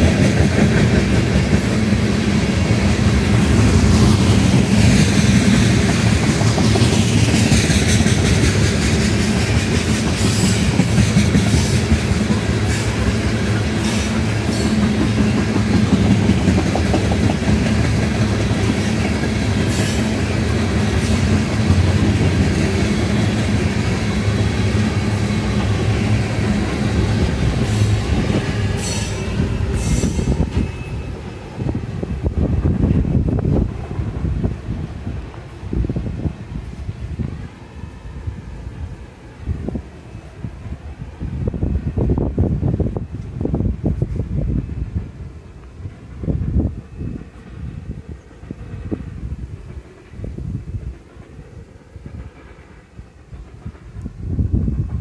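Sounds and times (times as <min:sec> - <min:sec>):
clickety-clack over rail joints: 0:00.0 - 0:55.0
train wheels rumbling on rails: 0:00.0 - 0:55.0.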